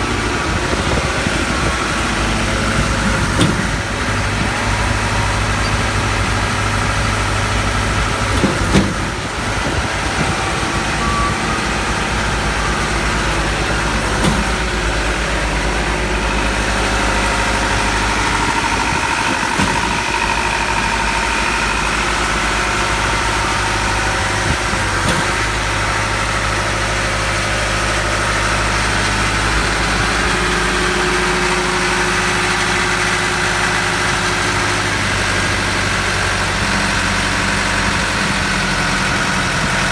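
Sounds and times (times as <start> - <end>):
concrete pump engine running: 0.0 - 39.9.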